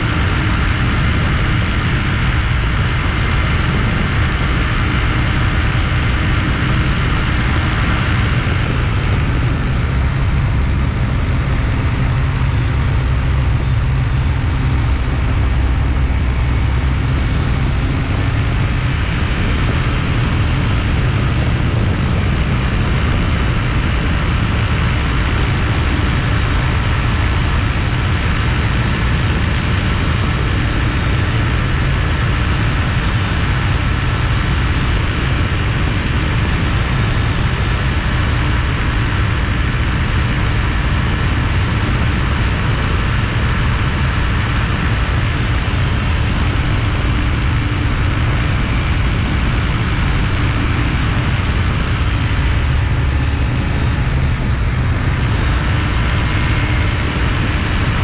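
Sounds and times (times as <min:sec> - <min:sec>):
aircraft engine droning: 0:00.0 - 0:58.0
wind rushing over microphone: 0:00.0 - 0:58.0.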